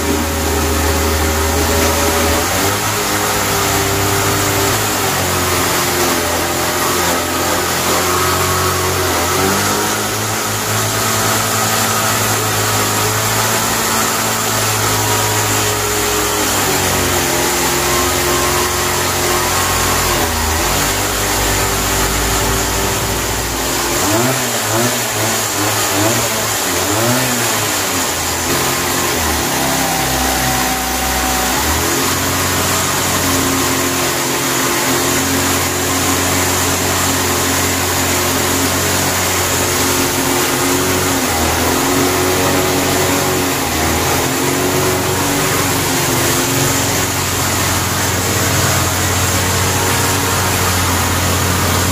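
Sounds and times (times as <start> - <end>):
engine running: 0.0 - 51.9.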